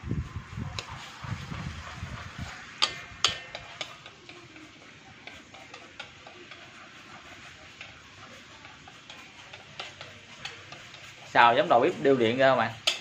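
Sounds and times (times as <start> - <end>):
sauce sizzling in a wok: 0.0 - 13.0
utensil scraping a wok: 0.0 - 13.0.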